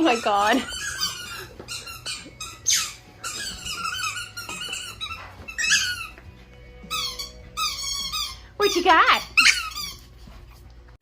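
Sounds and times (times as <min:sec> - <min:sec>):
squeaky dog toy squeaking: 0:00.0 - 0:10.2.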